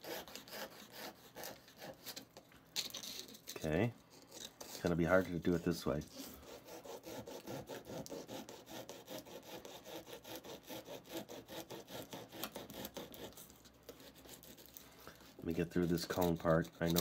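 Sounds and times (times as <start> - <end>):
knife sawing through wafer: 0.0 - 17.0.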